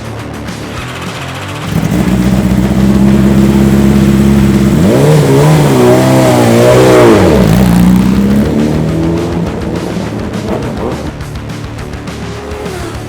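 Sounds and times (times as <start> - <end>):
motorcycle engine revving: 0.3 - 13.0.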